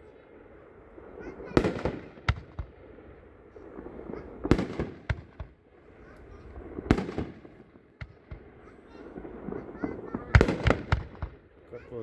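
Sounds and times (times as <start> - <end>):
firework booms: 0.0 - 11.9
lighter firework bangs: 1.2 - 2.8, 3.5 - 11.5.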